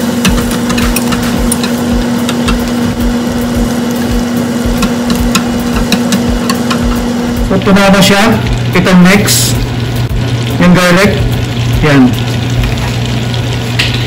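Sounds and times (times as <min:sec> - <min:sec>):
butter sizzling and popping: 0:00.0 - 0:14.0
low hum: 0:00.0 - 0:14.0.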